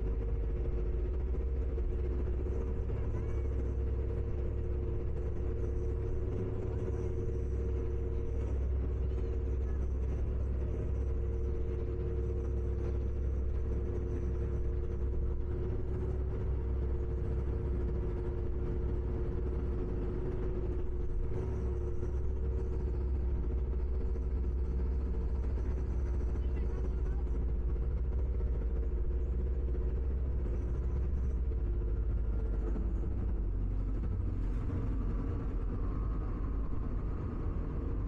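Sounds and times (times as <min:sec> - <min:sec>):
ferry engine rumbling: 0:00.0 - 0:38.0.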